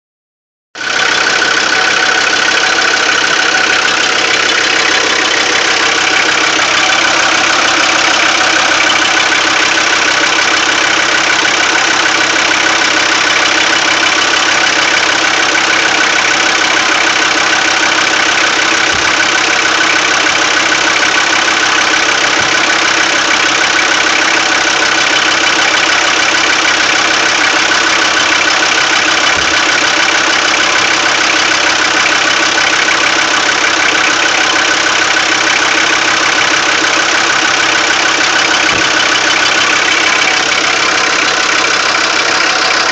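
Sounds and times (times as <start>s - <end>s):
diesel engine idling: 0.8s - 42.9s
fuel injector knocking: 0.8s - 42.9s.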